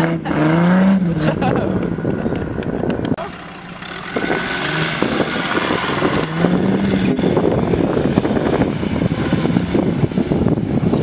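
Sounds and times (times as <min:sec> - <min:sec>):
suv engine revving: 0:00.0 - 0:11.0
wind on microphone: 0:00.0 - 0:11.0.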